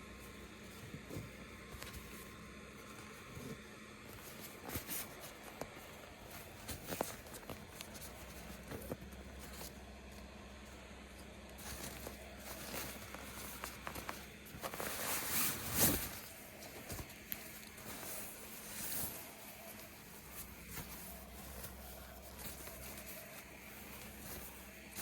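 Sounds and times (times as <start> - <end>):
handling rustling: 0.0 - 25.0.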